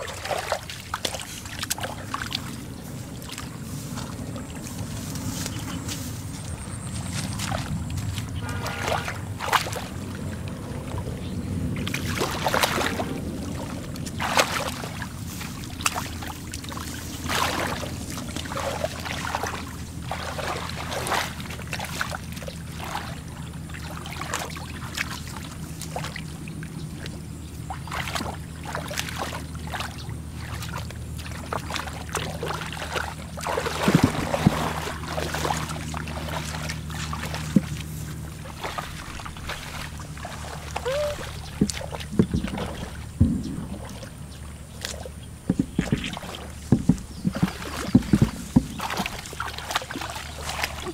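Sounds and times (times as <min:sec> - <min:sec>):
hands splashing in water: 0:00.0 - 0:06.1, 0:07.0 - 0:10.4, 0:11.8 - 0:26.3, 0:27.7 - 0:50.9
steady low hum: 0:00.0 - 0:50.9.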